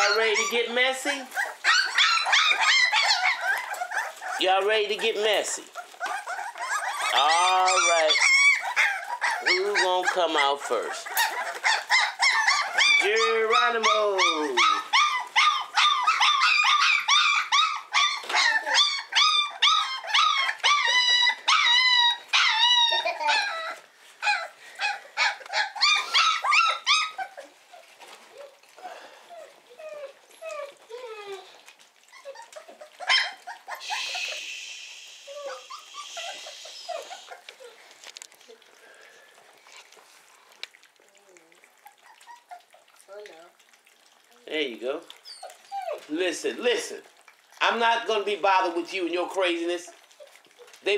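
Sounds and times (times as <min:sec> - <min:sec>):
puppies whining and yelping: 0:00.0 - 0:50.9.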